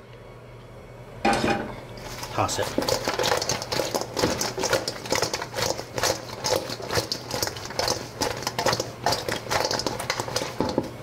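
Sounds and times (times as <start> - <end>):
chicken wings slapping in metal bowl: 2.0 - 11.0.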